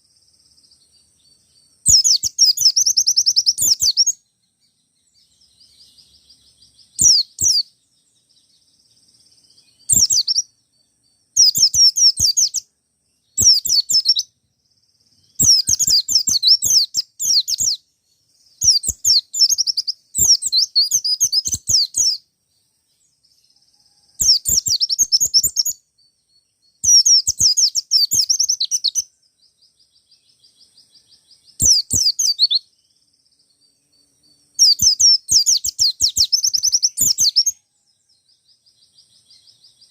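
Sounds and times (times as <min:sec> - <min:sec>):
bird high twittering song: 0:00.0 - 0:39.9.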